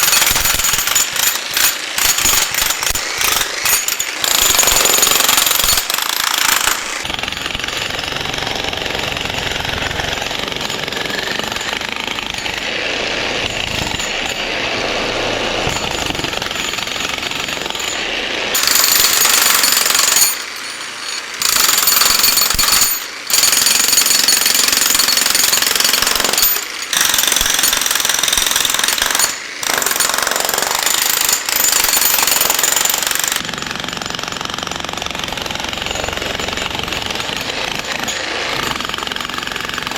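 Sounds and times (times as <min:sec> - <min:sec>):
jackhammer breaking concrete: 0:00.0 - 0:39.9.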